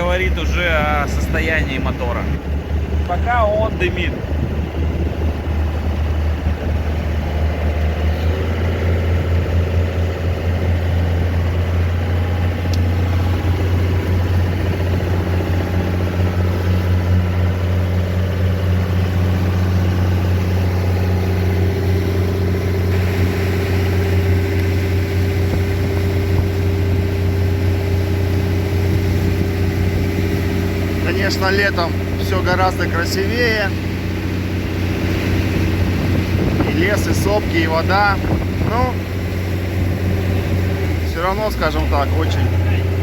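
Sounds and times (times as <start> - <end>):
motorboat engine humming: 0.0 - 43.0.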